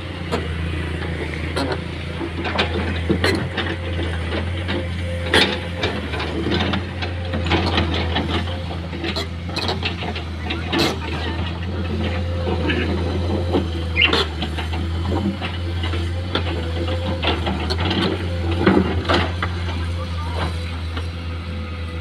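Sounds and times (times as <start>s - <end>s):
diesel engine drone: 0.0s - 22.0s
sharp knocks and clatter: 1.5s - 21.1s.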